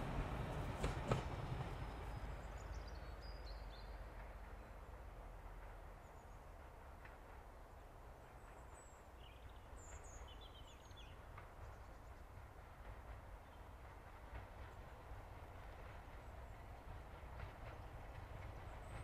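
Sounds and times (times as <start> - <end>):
distant diesel locomotive rumble: 0.0 - 19.0.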